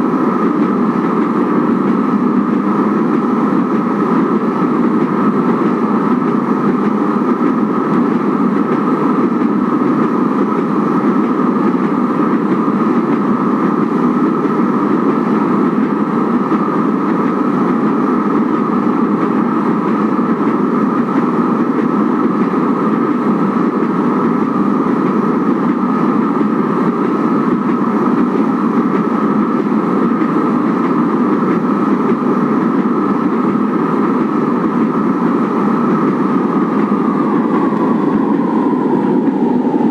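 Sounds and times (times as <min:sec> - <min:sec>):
light rail train running: 0:00.0 - 0:39.9.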